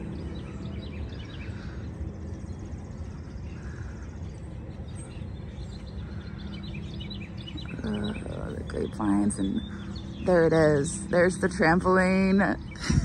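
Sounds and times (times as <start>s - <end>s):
low background rumble: 0.0s - 13.0s
songbirds chirping: 0.0s - 13.0s.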